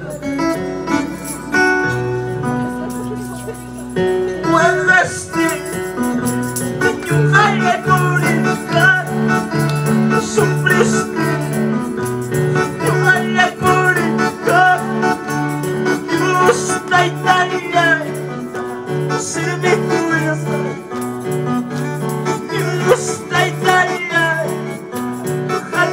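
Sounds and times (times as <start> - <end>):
voices singing: 0.0 - 20.9, 22.2 - 25.9
worship music on electronic keyboard: 0.0 - 21.2.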